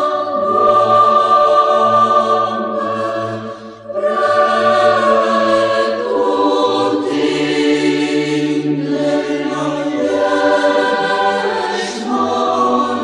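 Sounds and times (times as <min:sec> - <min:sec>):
church choir singing a hymn: 0:00.0 - 0:13.0.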